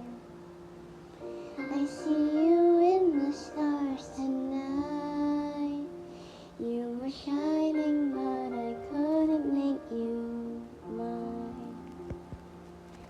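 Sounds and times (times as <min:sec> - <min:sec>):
girl singing slow melody: 0:00.0 - 0:12.9.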